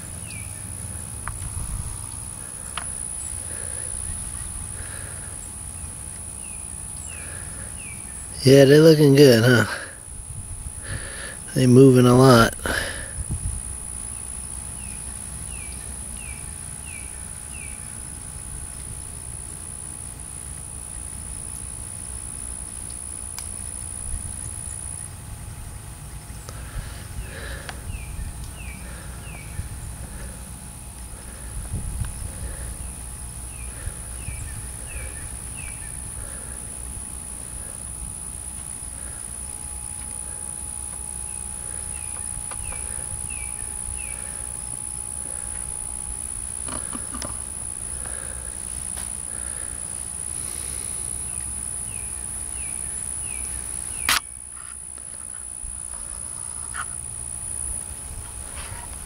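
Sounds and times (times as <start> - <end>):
steady low rumble: 0.0 - 15.5, 17.2 - 59.0
high-pitched whine: 0.0 - 59.0.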